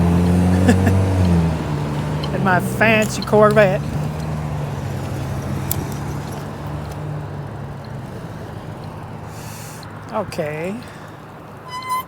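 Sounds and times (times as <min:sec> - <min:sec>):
tyre and road noise: 0:00.0 - 0:12.0
vehicle engine hum: 0:00.0 - 0:12.0.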